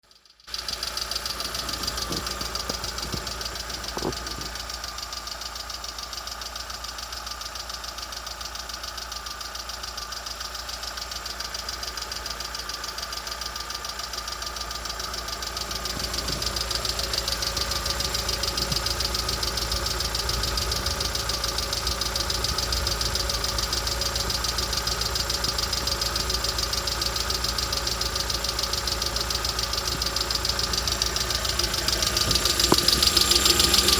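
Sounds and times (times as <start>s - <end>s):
car engine running with knock: 0.2s - 33.9s.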